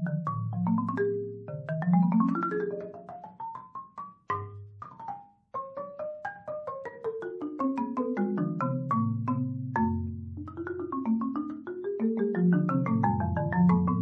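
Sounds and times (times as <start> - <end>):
marimba played with mallets: 0.0 - 14.0.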